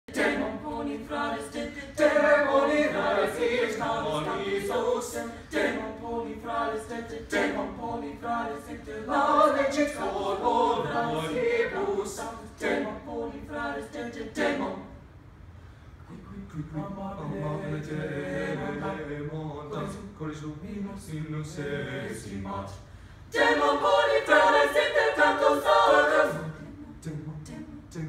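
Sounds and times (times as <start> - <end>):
a cappella group singing: 0.0 - 15.1, 16.1 - 28.0.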